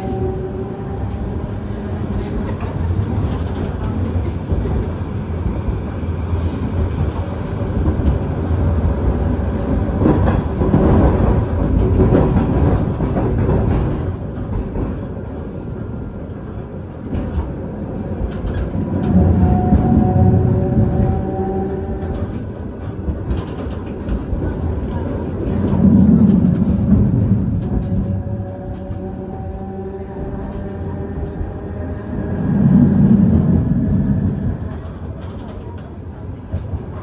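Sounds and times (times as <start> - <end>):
streetcar wheels rumbling on rail: 0.0 - 37.0.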